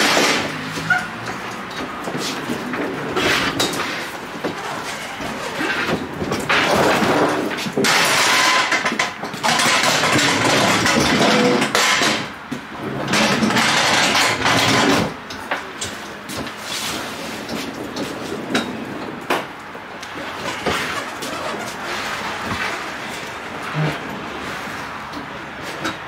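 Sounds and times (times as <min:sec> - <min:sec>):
pallet jack wheels rolling on wood: 0:00.0 - 0:26.0.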